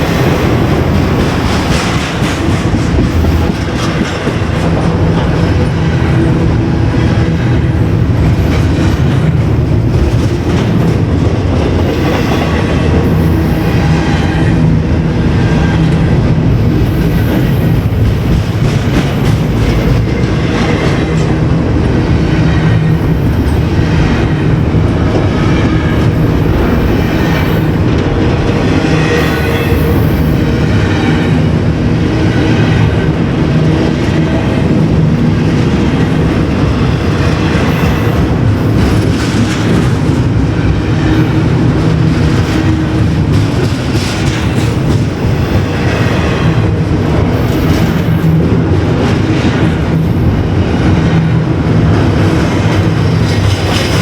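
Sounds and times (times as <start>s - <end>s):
train cars rumbling past: 0.0s - 54.0s
wheels clacking over rail joints: 0.0s - 54.0s.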